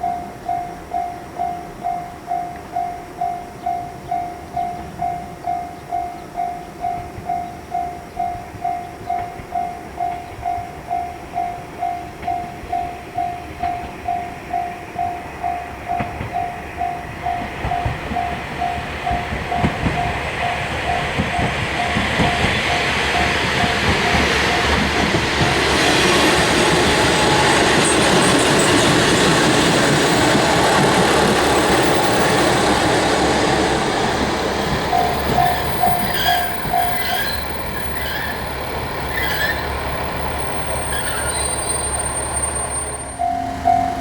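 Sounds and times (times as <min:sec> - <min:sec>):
high squeaks of train: 0:00.0 - 0:44.0
level crossing warning bell: 0:00.0 - 0:44.0
train wheels on rail: 0:00.0 - 0:44.0.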